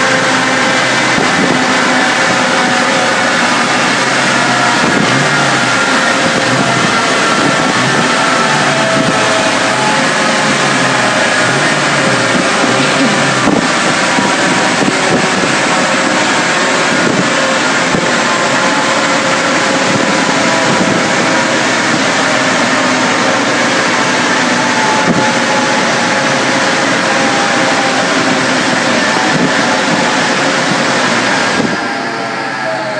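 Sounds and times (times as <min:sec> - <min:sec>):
car engine at steady revs: 0:00.0 - 0:32.9
dyno rollers: 0:00.0 - 0:32.9.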